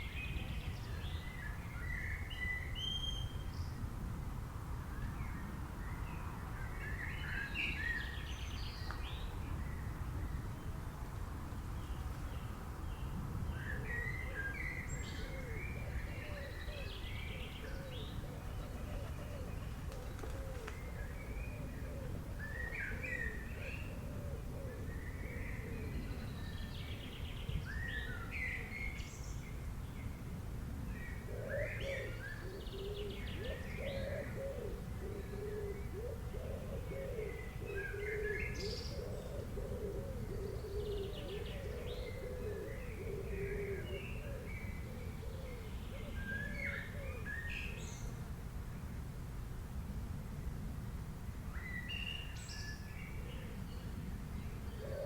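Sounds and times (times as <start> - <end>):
forest birds chirping and singing: 0.0 - 3.8, 4.9 - 10.8, 11.5 - 48.3, 51.5 - 55.0
low background hiss: 0.0 - 55.0.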